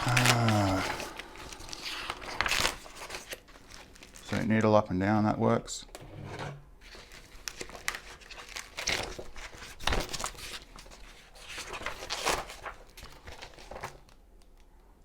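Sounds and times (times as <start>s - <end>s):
rustling and crinkling handling: 0.0s - 4.8s, 6.8s - 14.7s.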